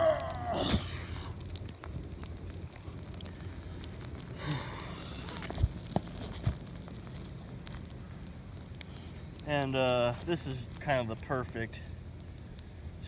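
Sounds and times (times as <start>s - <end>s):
fire crackling: 0.0s - 13.0s
sharp fire pops: 0.0s - 13.0s.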